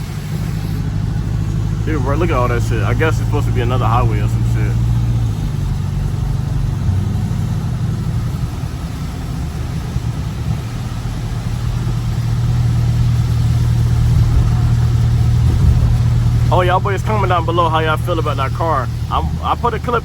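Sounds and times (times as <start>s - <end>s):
car engine droning: 0.0s - 20.0s
road hiss: 0.0s - 20.0s.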